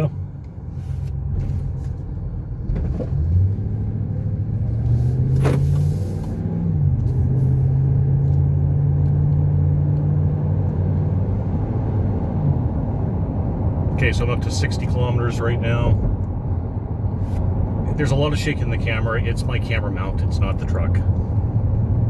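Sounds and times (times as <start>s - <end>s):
truck engine accelerating: 0.0s - 22.0s.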